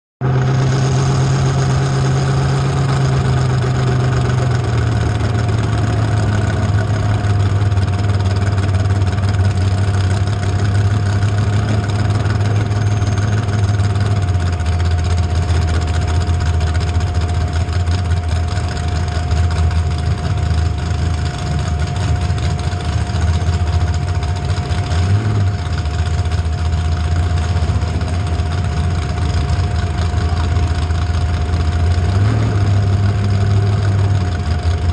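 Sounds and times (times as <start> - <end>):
car engines idling: 0.2 - 34.9.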